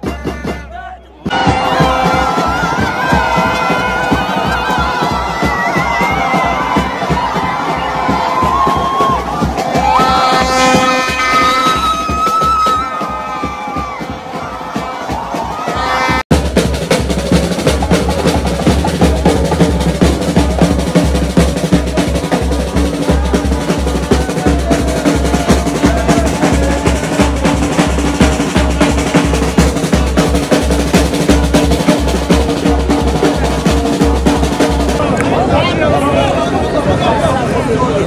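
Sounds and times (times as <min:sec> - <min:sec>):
music with driving drum beat: 0:00.0 - 0:35.2.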